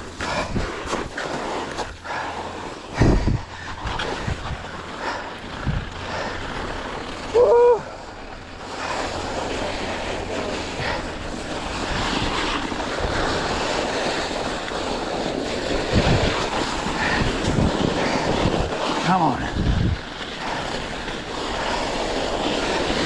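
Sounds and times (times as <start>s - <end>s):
bike tyres hissing over snow: 0.0s - 23.0s
wind on microphone: 0.0s - 23.0s.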